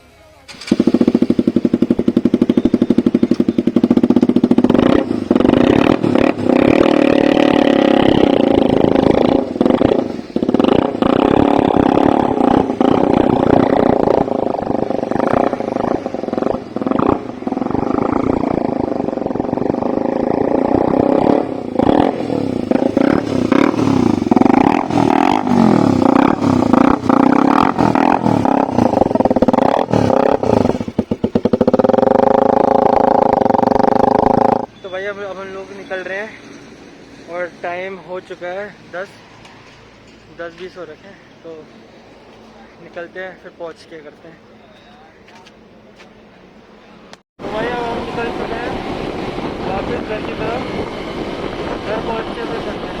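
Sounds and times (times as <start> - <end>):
motorcycle engines revving: 0.0 - 53.0.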